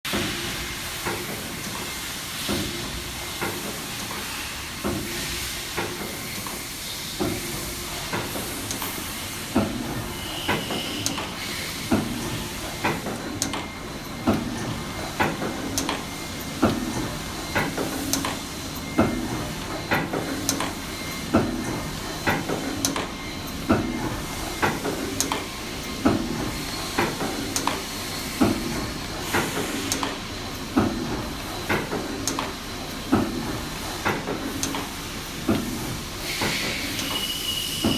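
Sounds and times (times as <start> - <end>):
bearing test machine hiss and hum: 0.1 - 37.9.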